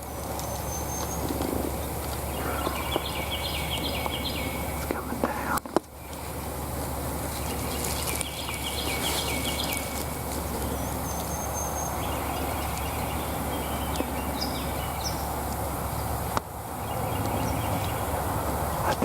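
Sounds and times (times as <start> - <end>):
songbirds chirping and trilling: 0.0 - 19.0
steady background hiss: 0.0 - 19.0.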